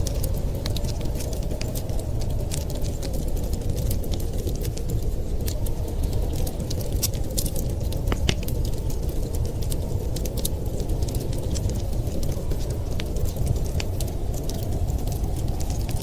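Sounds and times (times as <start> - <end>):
blizzard wind rumbling: 0.0 - 16.0
wood fire crackling: 0.0 - 16.0.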